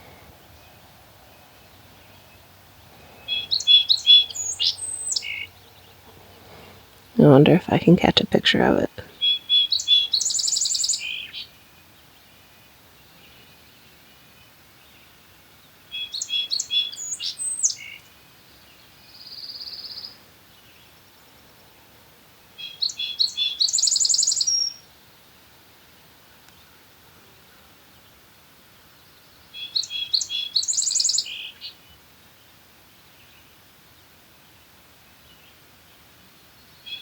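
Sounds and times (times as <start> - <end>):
songbird song with trill: 0.0 - 6.9, 9.1 - 21.9, 22.5 - 37.0.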